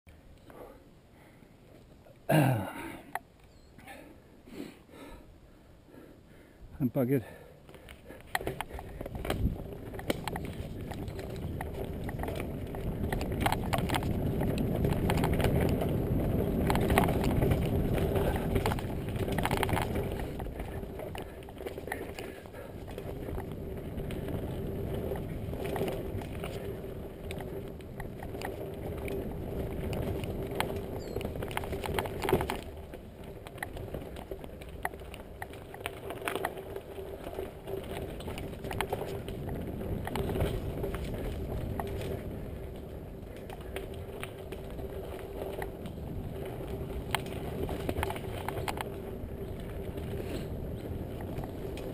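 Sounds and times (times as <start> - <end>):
bike tyres rumbling over dirt: 7.1 - 51.9
bike rattling and knocking: 7.7 - 51.9.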